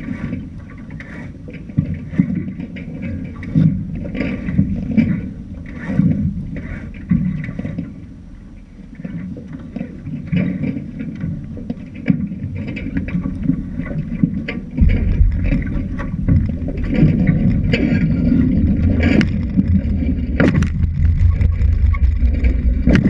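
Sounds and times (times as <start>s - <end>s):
water splashing against hull: 0.0s - 23.0s
wind rumbling on microphone: 0.0s - 23.0s.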